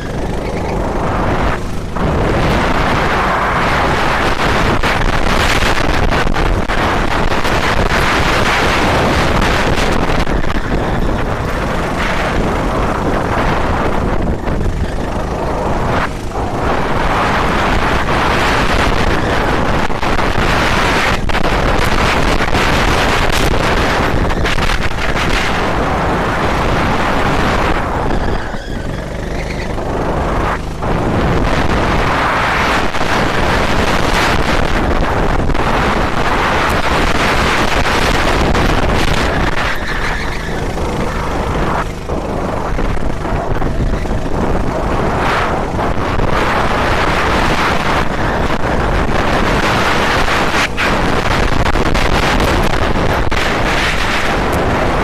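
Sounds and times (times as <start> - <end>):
racing vehicle engine: 0.0 - 55.0
rush of wind: 0.0 - 55.0.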